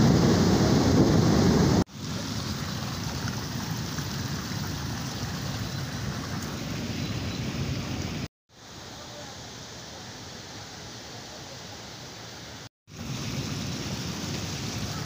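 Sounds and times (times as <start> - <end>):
flood water rushing: 0.0 - 15.0.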